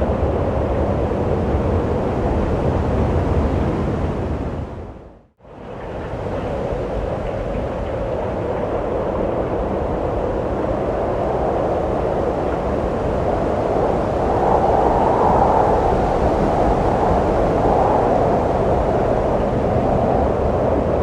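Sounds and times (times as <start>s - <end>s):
wind blowing: 0.0s - 21.0s.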